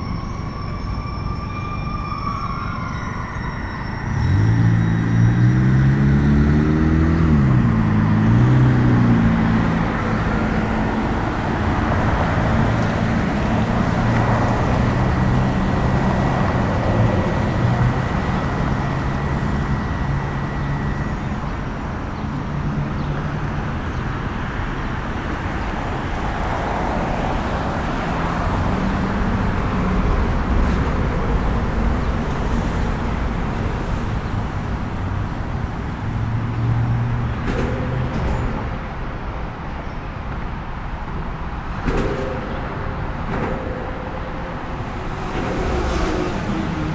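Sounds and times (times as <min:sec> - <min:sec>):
passing traffic drone: 0:00.0 - 0:46.9
vehicles pulling away: 0:00.0 - 0:46.9.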